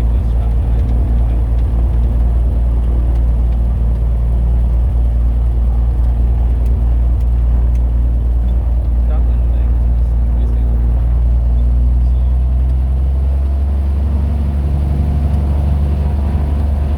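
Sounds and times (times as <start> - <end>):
propeller plane engine drone: 0.0 - 16.9.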